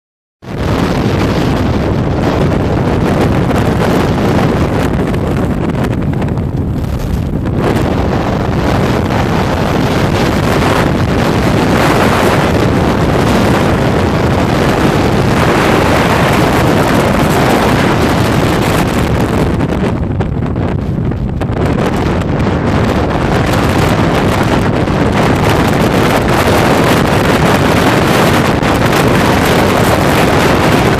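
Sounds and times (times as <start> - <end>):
gusting wind on microphone: 0.4 - 30.9.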